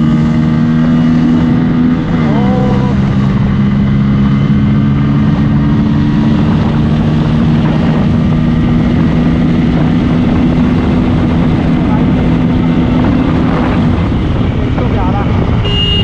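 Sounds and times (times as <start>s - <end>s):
motorcycle engine at high speed: 0.0s - 16.0s
wind rushing over microphone: 0.0s - 16.0s.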